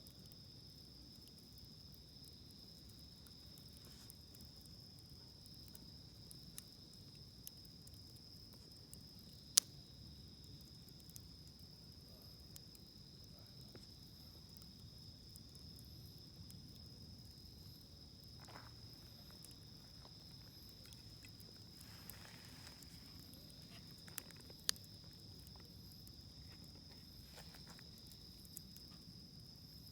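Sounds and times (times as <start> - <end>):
campfire crackling and popping: 0.0 - 29.9
insects trilling: 0.0 - 29.9.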